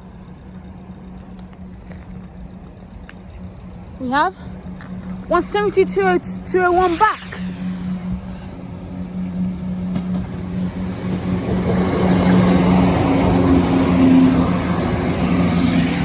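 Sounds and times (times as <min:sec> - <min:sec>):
diesel engine hum: 0:00.0 - 0:16.0
train wheel and rail noise: 0:00.0 - 0:16.0.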